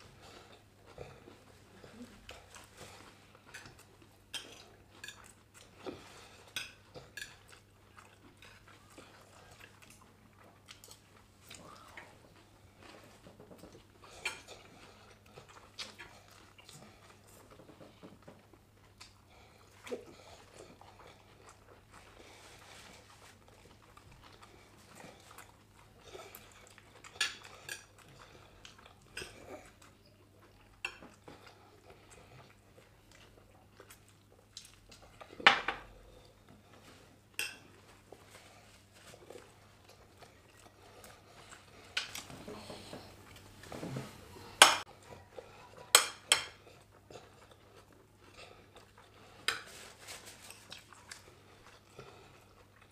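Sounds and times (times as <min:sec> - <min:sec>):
quiet chewing: 0:00.0 - 0:52.9.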